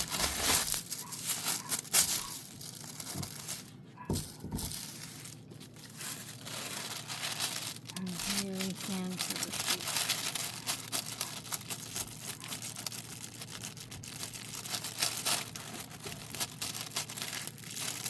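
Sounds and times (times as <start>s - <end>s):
plastic crinkling: 0.0s - 18.0s.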